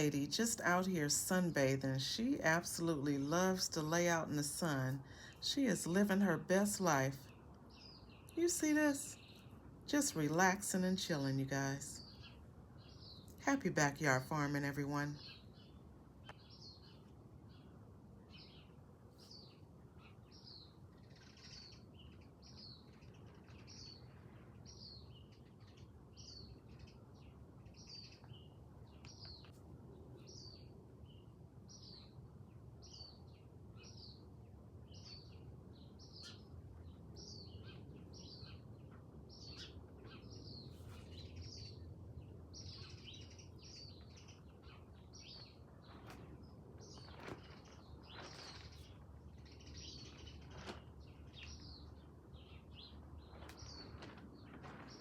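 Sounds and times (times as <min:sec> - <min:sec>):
small songbird chirping: 0:00.0 - 0:32.2, 0:32.8 - 0:55.0.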